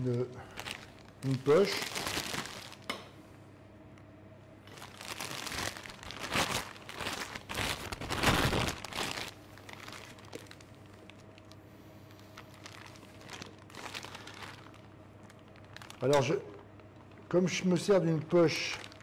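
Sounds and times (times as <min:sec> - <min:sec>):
plastic bag crinkling: 0:00.0 - 0:02.9, 0:04.6 - 0:19.0.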